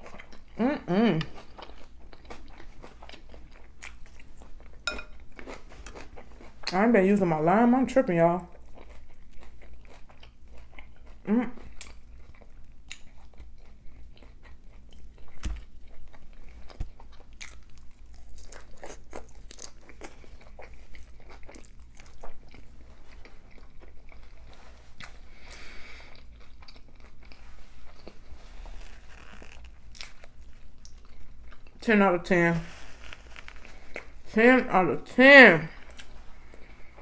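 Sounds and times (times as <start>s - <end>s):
wet chewing: 1.2s - 6.8s, 8.4s - 31.8s, 35.8s - 37.0s.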